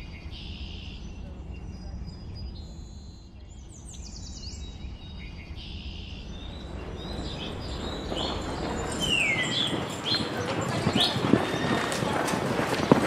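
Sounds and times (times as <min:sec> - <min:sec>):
birds chirping: 0:00.0 - 0:13.0
low outdoor rumble: 0:00.2 - 0:13.0.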